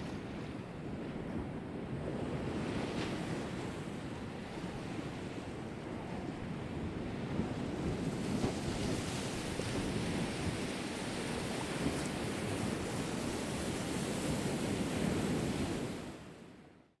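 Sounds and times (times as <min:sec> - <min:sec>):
wind rumbling on microphone: 0:00.0 - 0:16.5.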